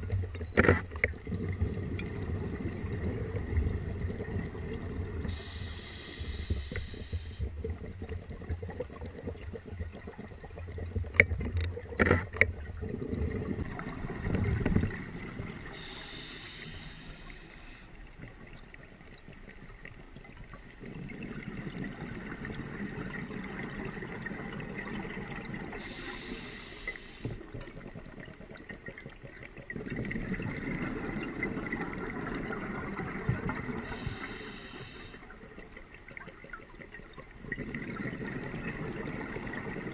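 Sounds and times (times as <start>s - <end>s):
regulator bubbles rushing: 0.0s - 15.9s, 18.2s - 26.0s, 27.4s - 34.4s, 35.2s - 39.9s.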